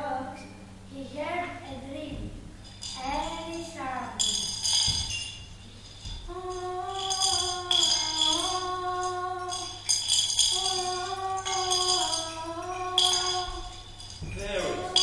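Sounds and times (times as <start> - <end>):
tambourine jingles: 2.6 - 15.0.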